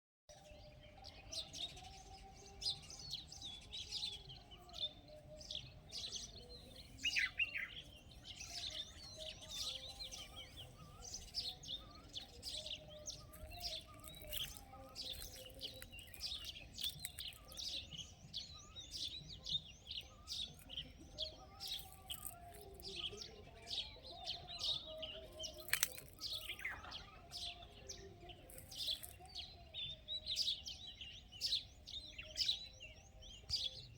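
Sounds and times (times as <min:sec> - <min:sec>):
small birds chirping and twittering: 0:00.3 - 0:33.9.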